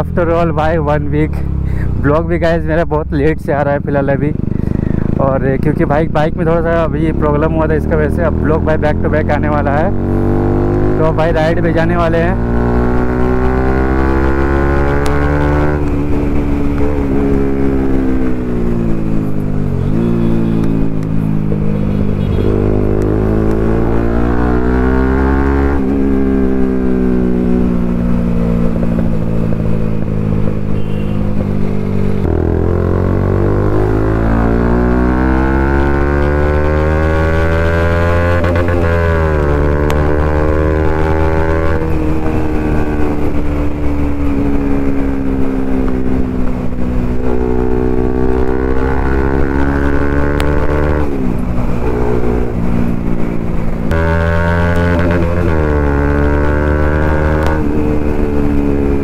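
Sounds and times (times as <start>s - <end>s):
motorcycle engine revving: 3.6s - 59.0s.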